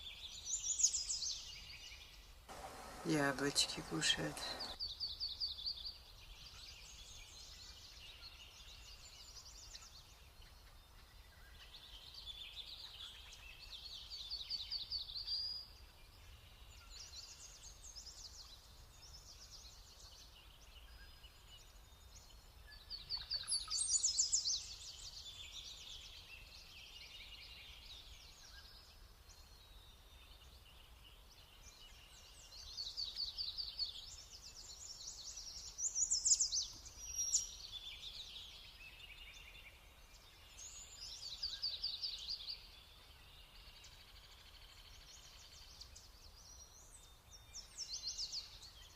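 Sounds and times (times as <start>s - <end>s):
songbirds calling: 0.0s - 5.6s, 6.4s - 48.9s.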